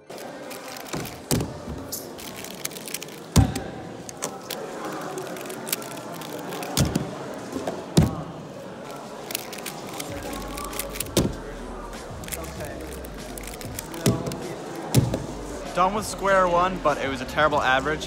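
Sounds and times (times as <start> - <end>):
steady background din: 0.0 - 18.0.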